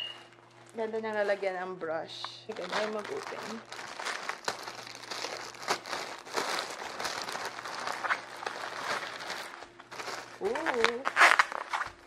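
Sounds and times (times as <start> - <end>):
plastic mailer bag crinkling: 2.3 - 12.0.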